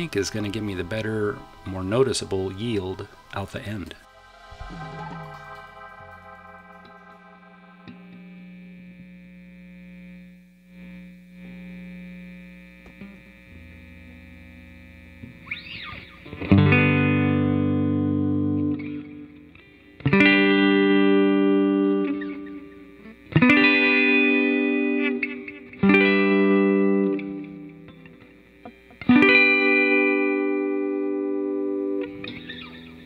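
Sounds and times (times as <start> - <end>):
electric guitar chords strummed: 0.0 - 33.0
electric guitar sustained notes: 0.0 - 33.0.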